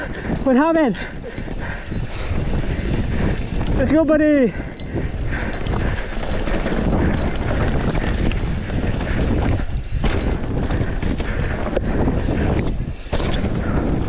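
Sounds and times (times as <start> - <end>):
bike rattling and knocking: 0.0 - 14.0
tyres on dirt trail: 0.0 - 14.0.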